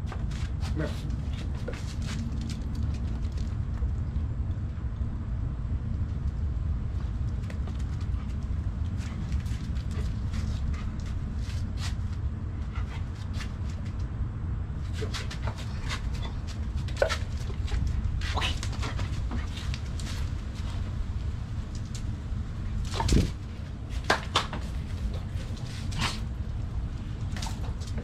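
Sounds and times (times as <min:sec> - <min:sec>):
dog paws clicking on concrete: 0:00.0 - 0:04.6, 0:06.0 - 0:14.1, 0:14.8 - 0:28.0
steady low rumble: 0:00.0 - 0:28.0.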